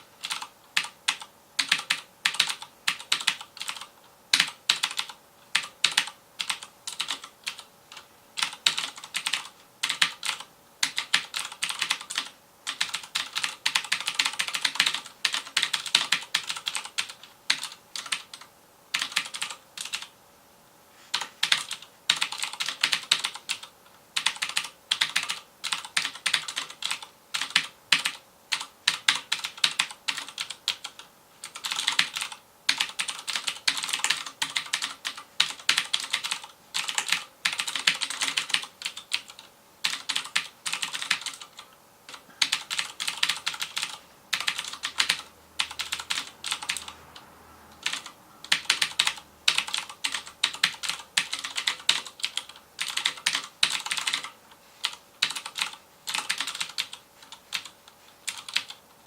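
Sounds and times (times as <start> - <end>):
fast typing on mechanical keyboard: 0.2 - 20.1, 21.1 - 47.0, 47.8 - 58.8.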